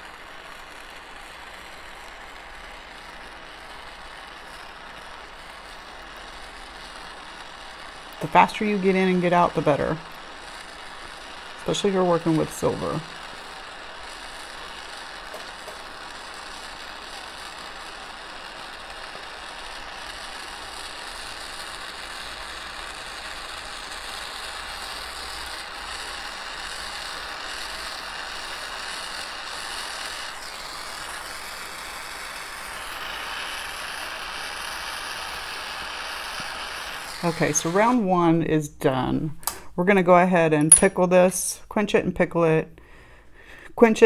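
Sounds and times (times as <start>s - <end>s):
gas torch hissing: 0.0s - 38.6s.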